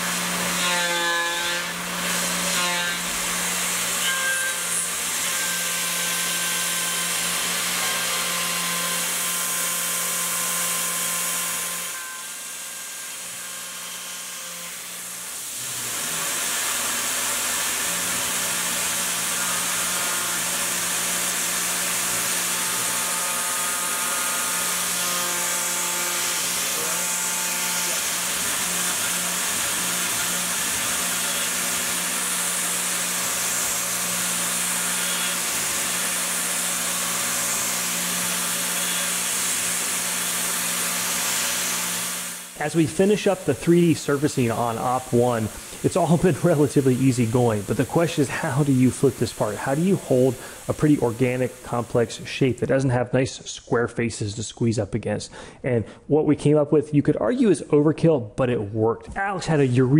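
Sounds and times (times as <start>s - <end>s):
milling machine cutting metal: 0.0s - 52.2s.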